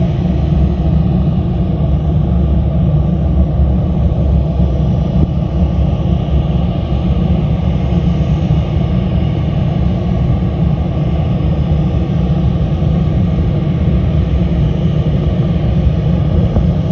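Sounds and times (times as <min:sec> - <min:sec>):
jet engines at takeoff power: 0:00.0 - 0:16.9.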